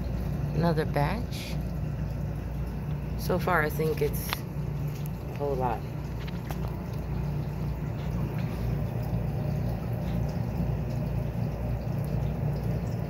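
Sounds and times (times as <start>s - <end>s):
aquarium bubbling water: 0.0s - 13.0s
constant low hum: 0.0s - 13.0s.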